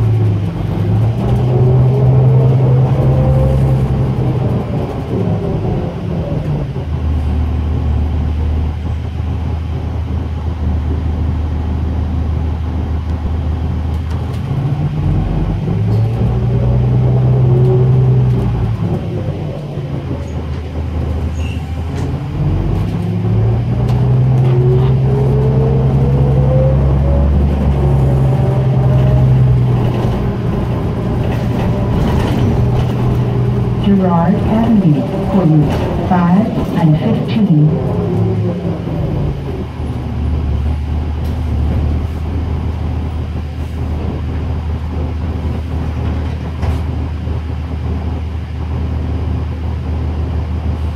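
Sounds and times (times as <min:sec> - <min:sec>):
bus diesel engine hum: 0:00.0 - 0:50.9.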